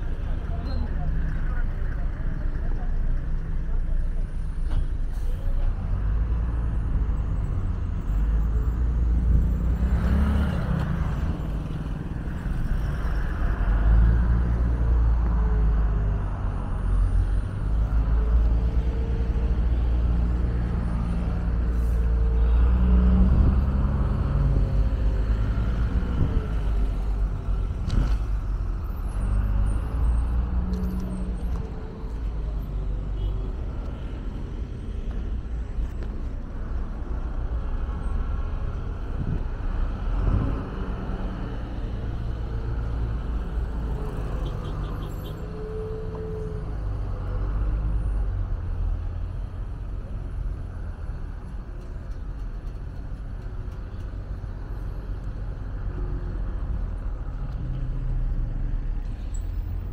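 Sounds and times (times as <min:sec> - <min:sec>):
traffic rumble: 0:00.0 - 0:59.9
vehicles passing by: 0:00.0 - 0:59.9.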